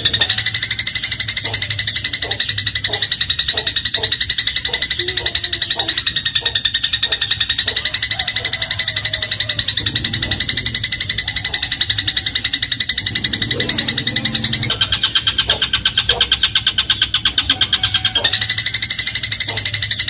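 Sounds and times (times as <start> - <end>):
sparrow rattling chirps: 0.0 - 20.0.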